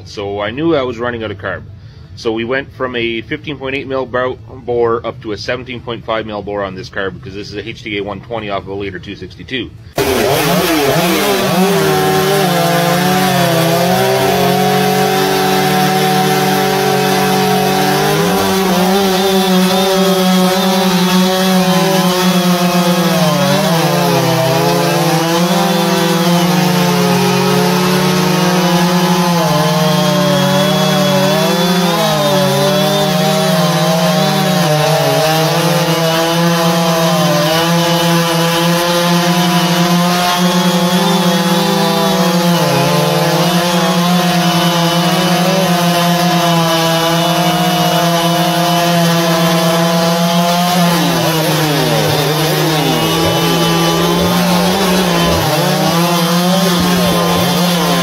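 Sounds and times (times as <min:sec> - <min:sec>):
chainsaw cutting log: 0:09.9 - 0:58.0.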